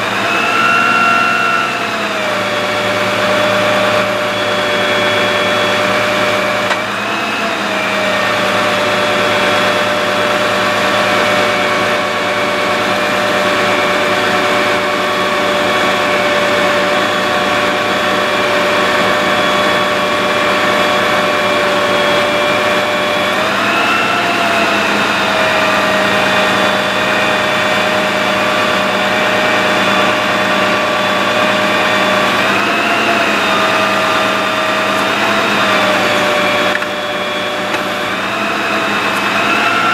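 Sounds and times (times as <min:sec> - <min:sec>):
truck hydraulic machine whine: 0:00.0 - 0:39.9.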